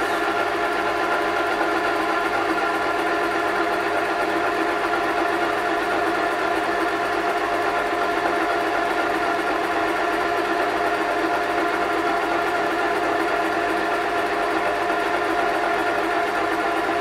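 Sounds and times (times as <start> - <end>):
ice cream maker humming: 0.0 - 17.0.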